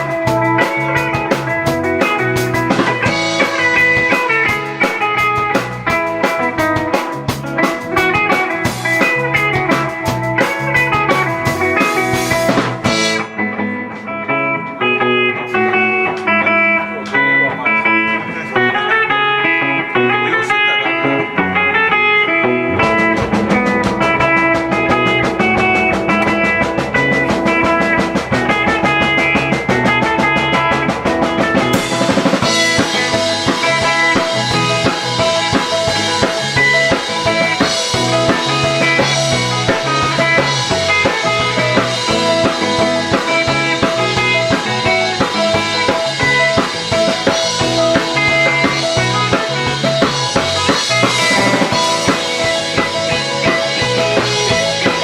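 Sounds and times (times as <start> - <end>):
drum kit playing: 0.0 - 55.0
guitar playing: 0.0 - 55.0.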